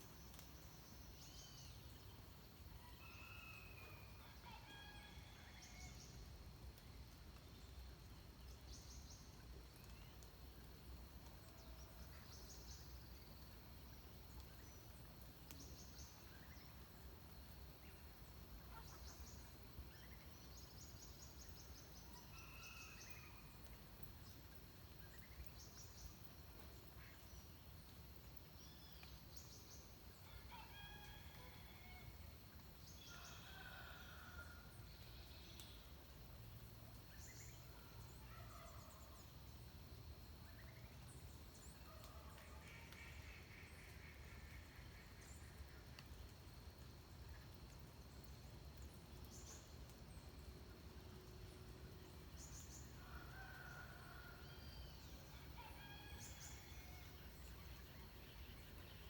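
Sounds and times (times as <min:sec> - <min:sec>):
soft background hiss: 0:00.0 - 0:59.0.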